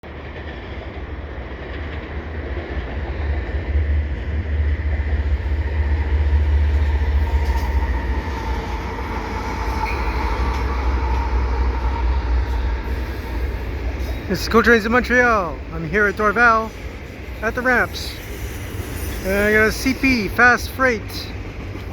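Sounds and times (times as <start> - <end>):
diesel locomotive engine rumble: 0.0 - 21.9.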